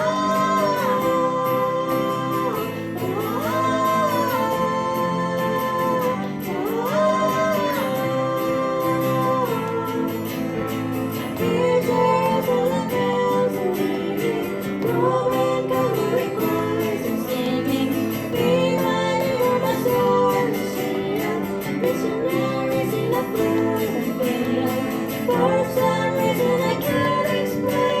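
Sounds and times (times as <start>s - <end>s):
acoustic guitar: 0.0s - 28.0s
person singing: 0.0s - 28.0s.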